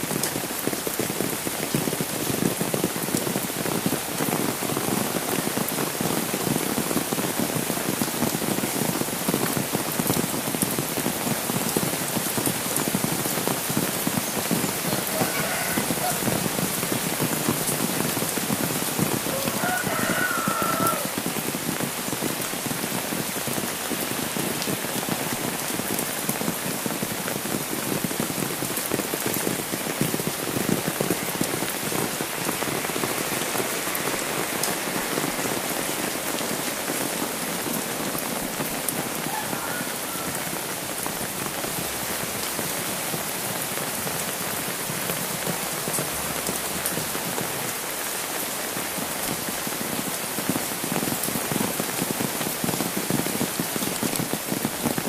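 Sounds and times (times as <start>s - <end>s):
heavy rain on umbrella: 0.0s - 55.0s.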